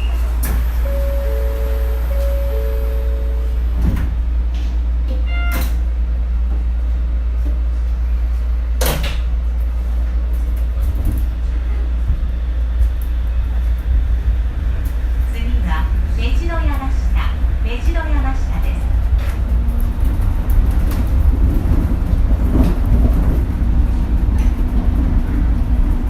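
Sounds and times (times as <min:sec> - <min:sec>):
monorail car rumbling: 0:00.0 - 0:26.0.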